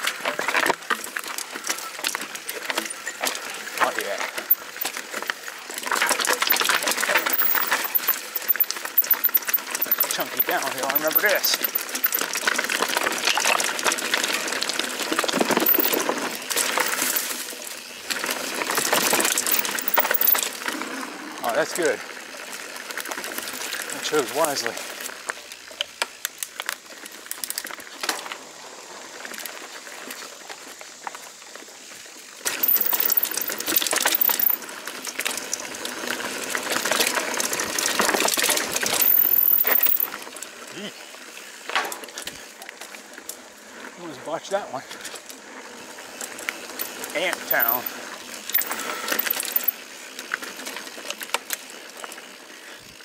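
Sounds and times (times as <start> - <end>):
bike chain and frame rattling: 0.0 - 31.0, 31.8 - 53.0
bike tyres clattering over rocks: 0.0 - 53.0.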